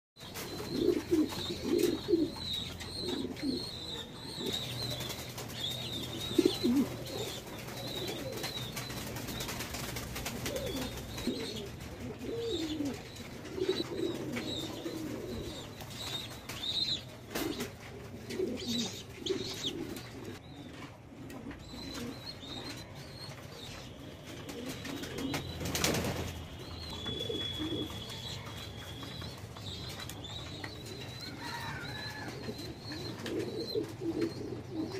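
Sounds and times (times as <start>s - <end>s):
pigeons cooing: 0.2s - 9.6s, 10.2s - 23.3s, 24.4s - 26.1s, 26.7s - 34.9s.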